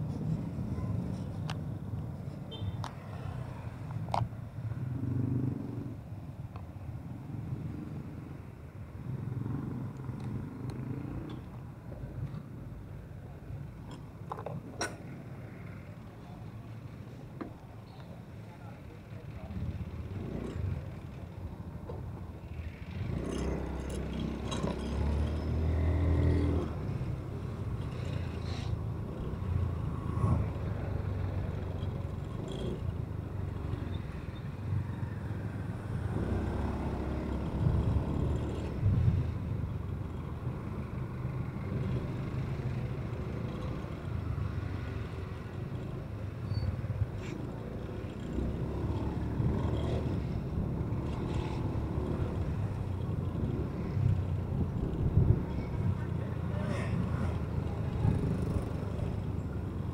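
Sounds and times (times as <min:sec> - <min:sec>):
motor vehicle rumbling: 0:00.0 - 0:59.9
road noise: 0:00.0 - 0:59.9.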